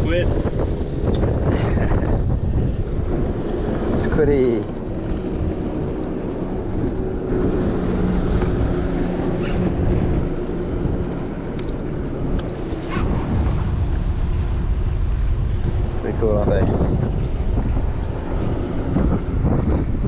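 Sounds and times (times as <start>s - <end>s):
boat motor hum: 0.0s - 20.0s
wind buffeting microphone: 0.0s - 20.0s.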